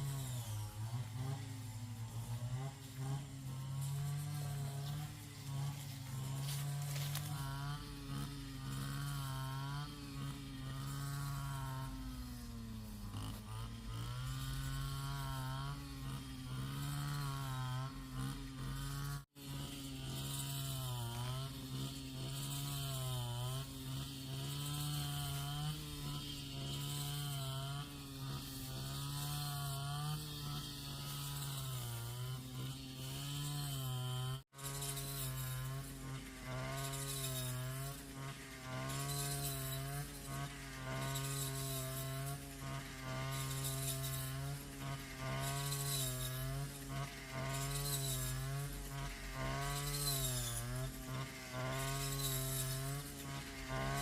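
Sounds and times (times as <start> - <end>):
small petrol engine running: 0.0 - 54.0.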